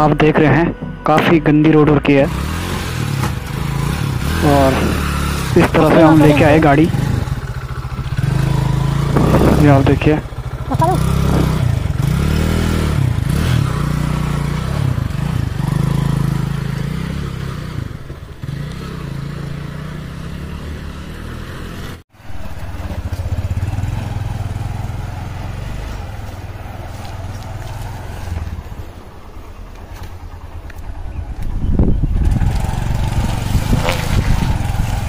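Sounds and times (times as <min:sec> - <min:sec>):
motorcycle engine revving: 0:01.9 - 0:35.0.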